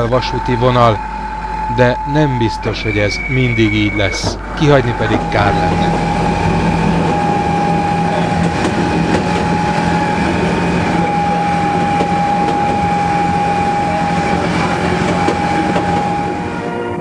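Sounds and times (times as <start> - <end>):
diesel locomotive engine drone: 0.0 - 17.0
steady high whine: 0.0 - 17.0
wheels running on rails: 0.0 - 17.0.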